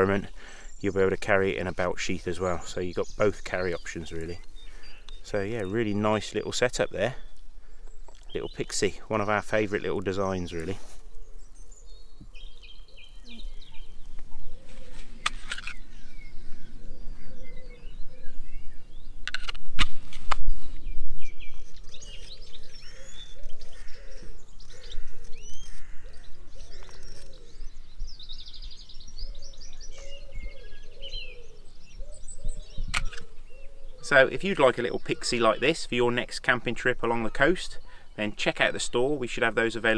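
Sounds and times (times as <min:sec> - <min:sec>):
small birds chirping and trilling: 0:00.0 - 0:19.7, 0:20.4 - 0:39.9.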